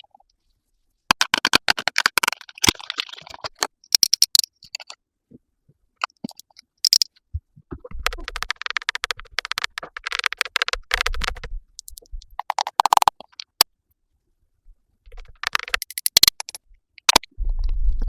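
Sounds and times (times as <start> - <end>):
crackly scratching and tapping: 1.1 - 5.0, 6.0 - 13.7, 15.0 - 18.0.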